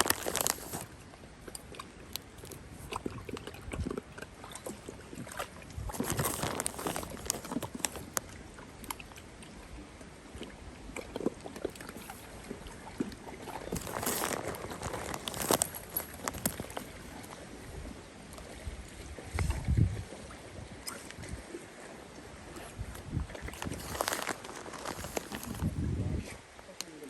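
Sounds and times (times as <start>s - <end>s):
water sloshing as dog swims: 0.0s - 25.8s.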